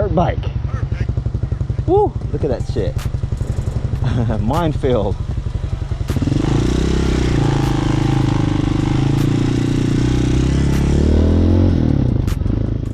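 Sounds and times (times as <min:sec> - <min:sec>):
dirt bike engine: 0:00.0 - 0:12.9.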